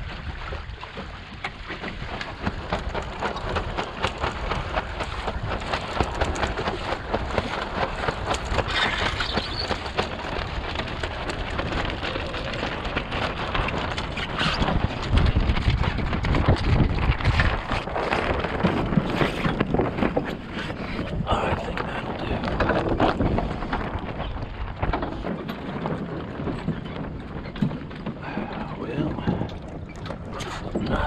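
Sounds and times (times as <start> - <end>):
water splashing against boat hull: 0.0 - 31.0
wind buffeting microphone: 0.0 - 31.0.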